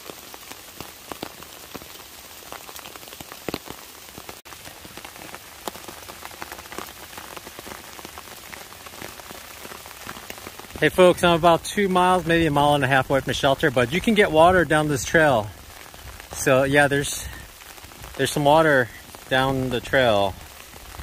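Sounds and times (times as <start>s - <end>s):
rain falling on wet leaves: 0.0s - 21.0s.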